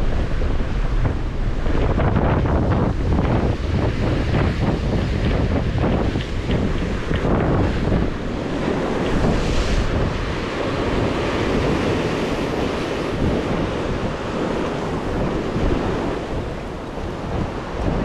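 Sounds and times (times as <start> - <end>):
sea waves washing ashore: 0.0 - 18.0
wind buffeting microphone: 0.0 - 18.0.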